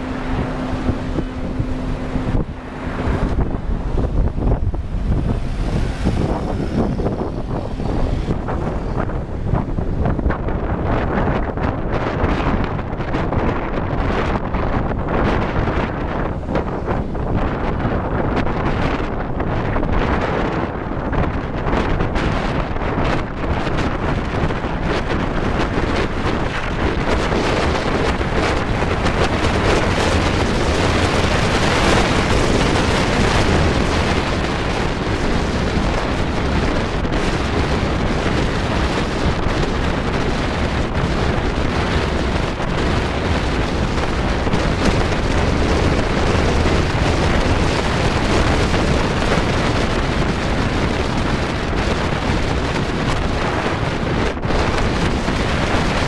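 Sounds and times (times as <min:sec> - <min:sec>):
vehicle road and engine noise: 0:00.0 - 0:56.0
wind rushing over microphone: 0:00.0 - 0:56.0.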